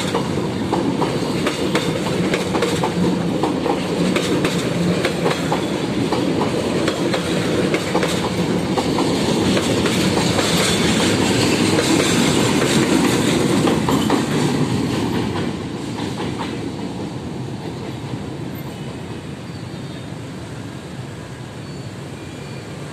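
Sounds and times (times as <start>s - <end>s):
train wheels clattering over rail joints: 0.0s - 19.2s.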